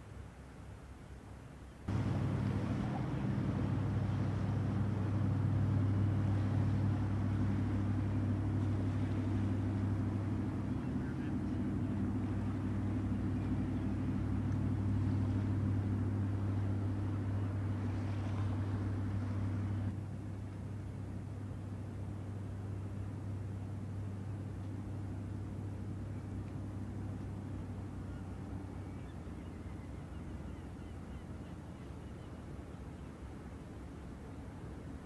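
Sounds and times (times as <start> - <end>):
boat engines droning: 1.7 - 35.0.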